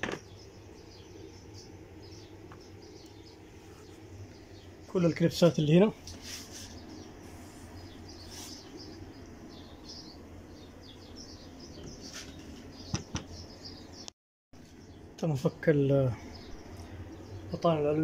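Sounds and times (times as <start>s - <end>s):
faint bird chirps: 0.2s - 18.0s.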